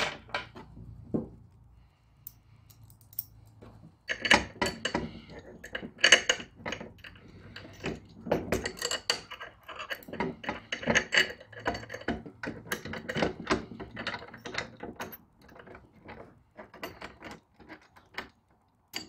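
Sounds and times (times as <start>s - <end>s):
metal bolts and nuts clinking: 2.2s - 19.0s.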